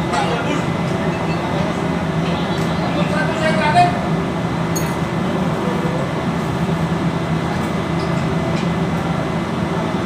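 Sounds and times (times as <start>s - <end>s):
low machinery drone: 0.0s - 10.0s.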